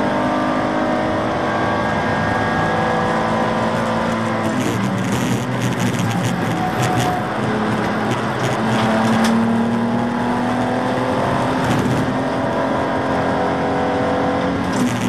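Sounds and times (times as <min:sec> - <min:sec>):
car engine pulling hard: 0:00.0 - 0:15.0
road and wind noise: 0:00.0 - 0:15.0.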